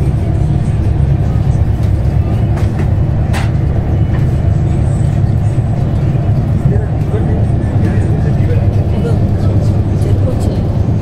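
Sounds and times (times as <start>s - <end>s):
train rumble inside coach: 0.0s - 11.0s.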